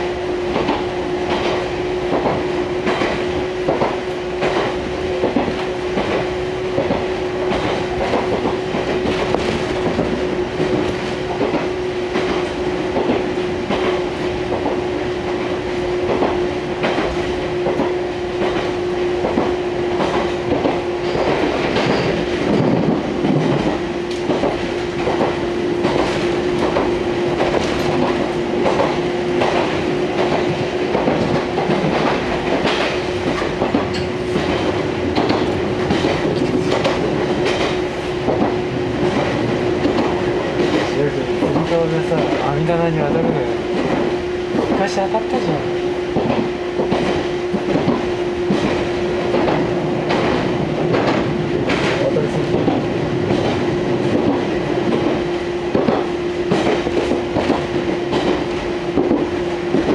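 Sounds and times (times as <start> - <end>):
rough train rumble: 0.0 - 59.9
train running hum: 0.0 - 59.9
train wheels clicking over rail joints: 0.0 - 59.9.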